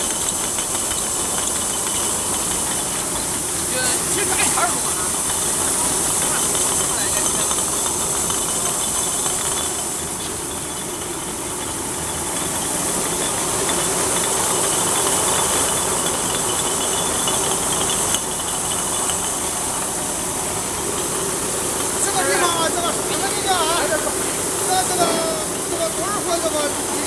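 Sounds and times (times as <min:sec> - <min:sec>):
bottle washing machine rushing: 0:00.0 - 0:27.0
faint mechanical hum: 0:00.0 - 0:27.0.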